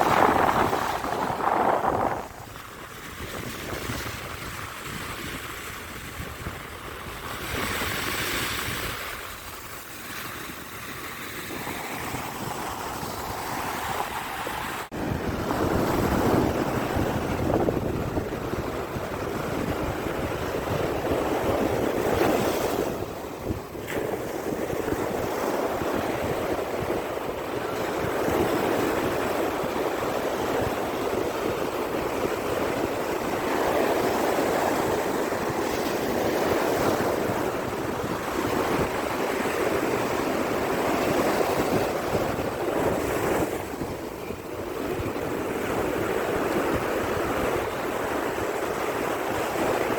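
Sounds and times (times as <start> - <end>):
sea waves breaking on beach: 0.0 - 49.9
wind on microphone: 0.0 - 49.9.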